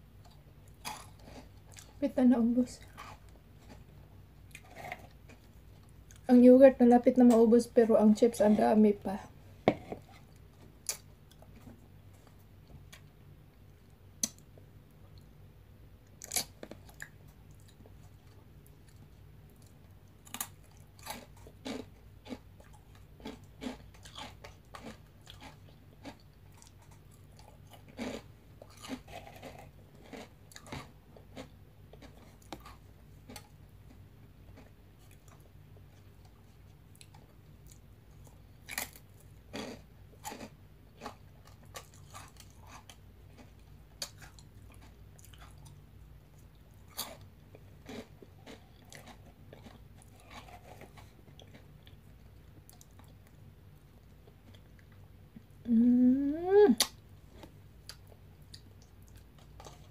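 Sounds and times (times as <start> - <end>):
crunchy snacks being chewed: 0.2 - 2.0, 2.6 - 6.3, 16.1 - 55.5, 56.8 - 59.9.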